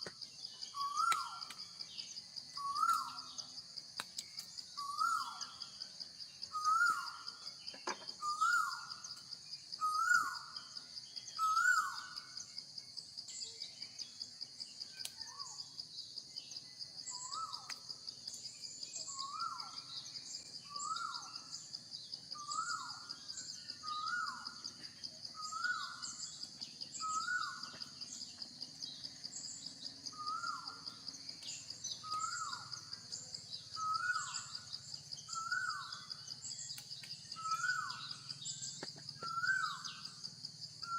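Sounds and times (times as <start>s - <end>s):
high pulsing insect drone: 0.0s - 40.9s.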